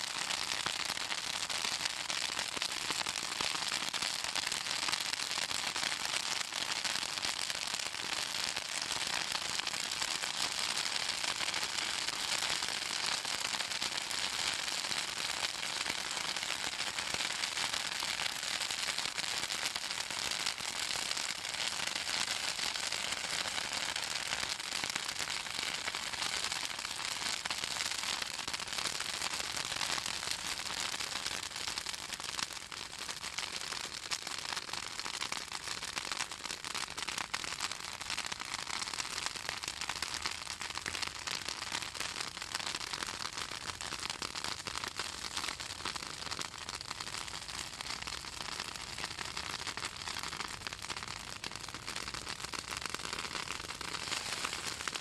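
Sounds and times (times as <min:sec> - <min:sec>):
bonfire crackling and popping: 0:00.0 - 0:55.0.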